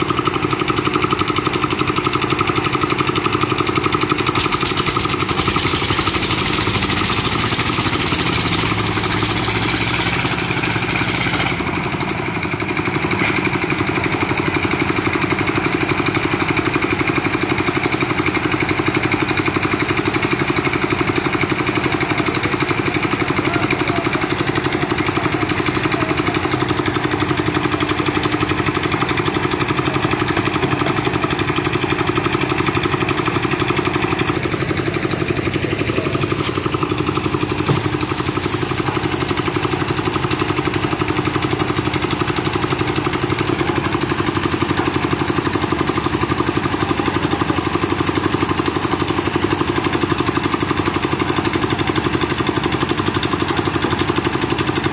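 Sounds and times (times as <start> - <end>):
concrete mixer engine running: 0.0 - 54.9.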